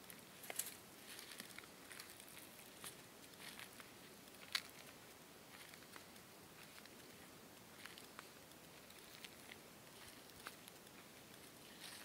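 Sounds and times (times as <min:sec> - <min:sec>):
footsteps on dry leaves: 0:00.3 - 0:12.0.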